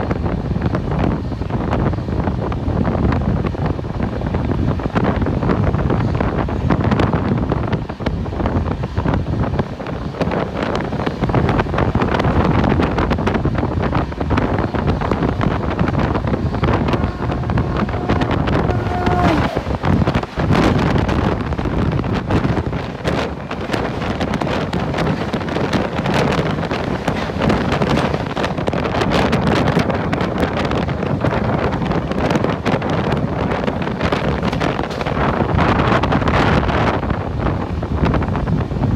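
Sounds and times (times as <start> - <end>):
train clatter and knocks: 0.0 - 38.9
train rumble: 0.0 - 38.9
wind buffeting microphone: 0.0 - 38.9.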